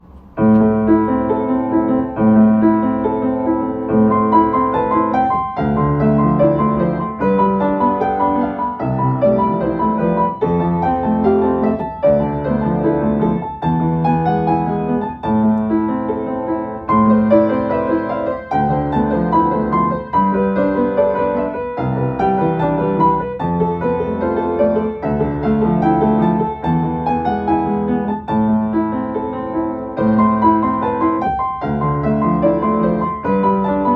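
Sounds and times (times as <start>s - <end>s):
gentle piano music: 0.0s - 33.9s.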